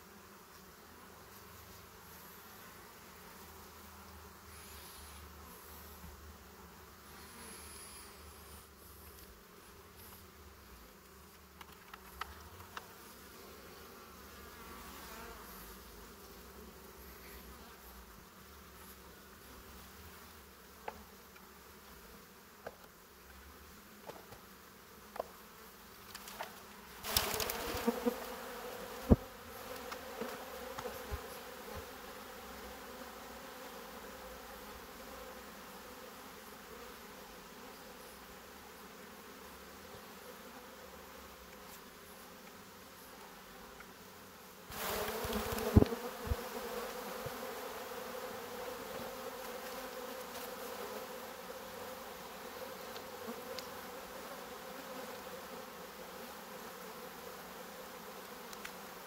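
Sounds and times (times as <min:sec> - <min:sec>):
bees humming: 0:00.0 - 0:59.0.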